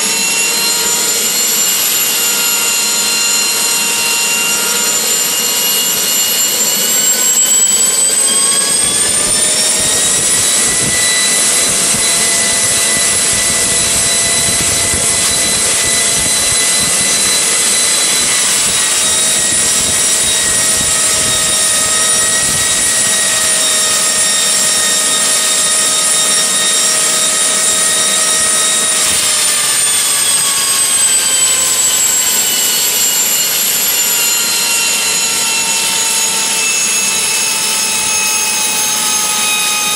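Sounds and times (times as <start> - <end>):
gas turbine whine: 0.0 - 39.9.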